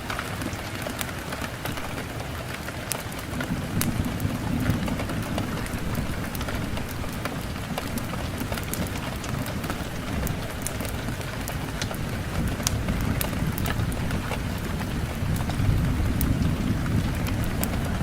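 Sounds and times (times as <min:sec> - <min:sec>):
steady rain with low rumble: 0:00.0 - 0:18.0
wood fire crackling: 0:00.0 - 0:18.0.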